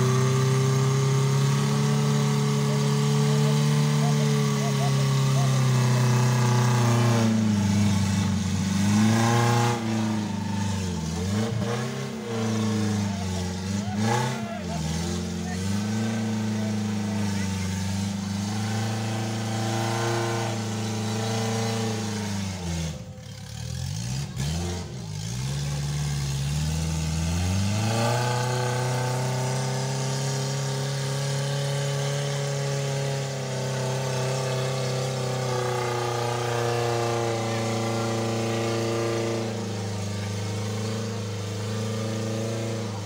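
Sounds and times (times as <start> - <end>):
car engine revving under load: 0.0 - 43.0.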